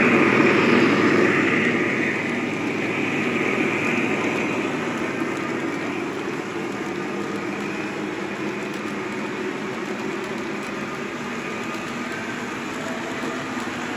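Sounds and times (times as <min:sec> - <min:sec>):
diesel engine sound: 0:00.0 - 0:13.9.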